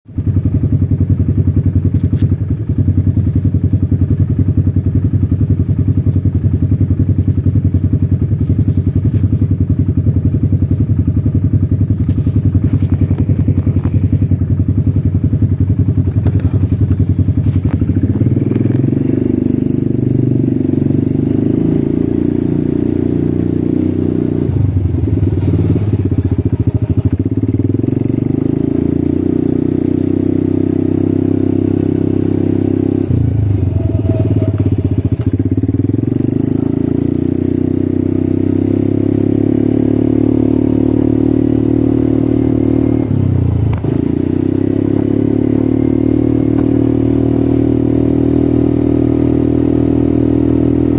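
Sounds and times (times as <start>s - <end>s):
atv engine running: 0.1s - 50.9s.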